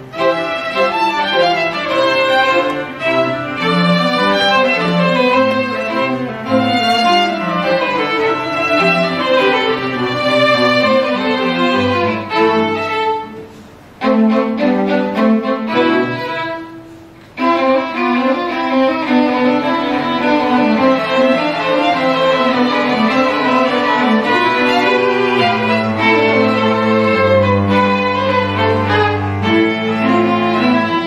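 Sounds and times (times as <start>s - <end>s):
string quartet playing: 0.0s - 31.0s.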